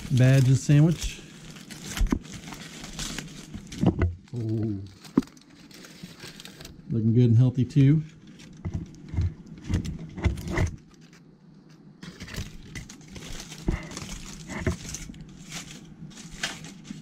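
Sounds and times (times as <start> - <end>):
foil wrappers crinkling: 0.0 - 6.9, 7.7 - 11.2, 12.0 - 17.0.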